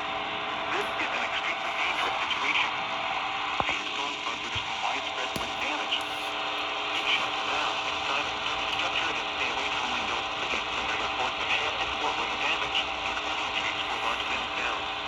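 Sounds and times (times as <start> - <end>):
faint garbled voice: 0.0 - 3.0, 3.6 - 15.0
constant hum: 0.0 - 15.0
radio static hiss: 0.0 - 15.0.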